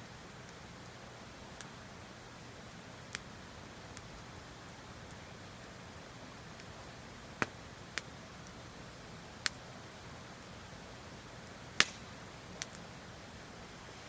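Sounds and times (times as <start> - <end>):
campfire crackling and popping: 0.0 - 14.0
faint steady hiss: 0.0 - 14.0.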